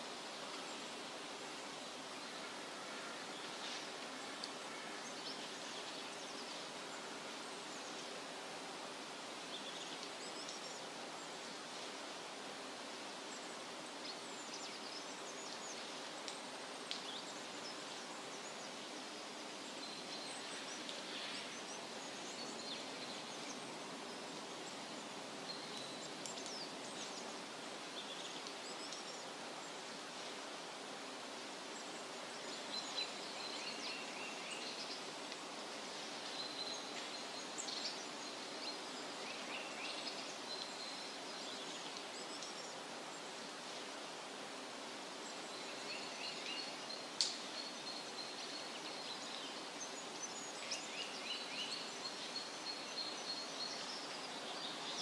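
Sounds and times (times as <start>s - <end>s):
songbirds chirping: 0.0s - 55.0s
stream running over rocks: 0.0s - 55.0s.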